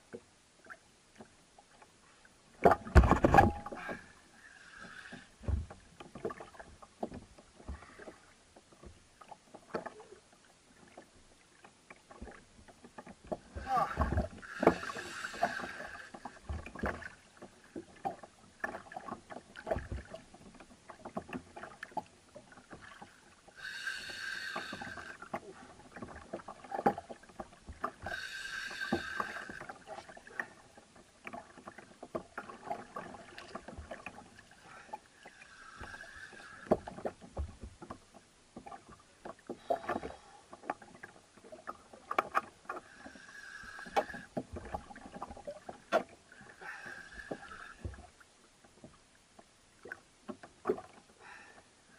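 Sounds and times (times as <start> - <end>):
water on a hull: 0.0 - 51.9.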